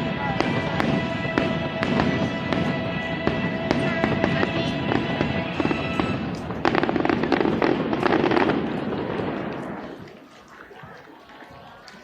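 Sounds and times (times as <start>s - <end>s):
fireworks music soundtrack: 0.0s - 10.1s
rapid crackling firework bursts: 0.0s - 10.1s.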